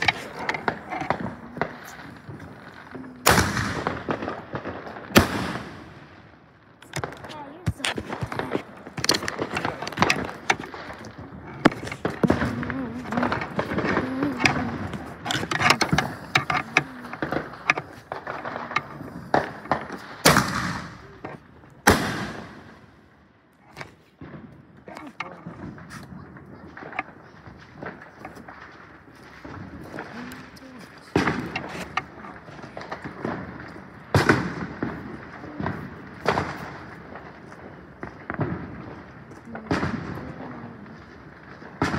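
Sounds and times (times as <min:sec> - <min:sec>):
fireworks cracking and popping: 0:00.0 - 0:41.9.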